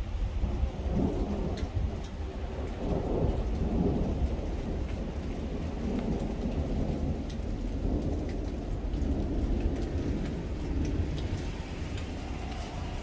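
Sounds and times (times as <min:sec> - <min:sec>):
steady rain falling: 0:00.0 - 0:13.0
thunder rumbling: 0:00.0 - 0:13.0.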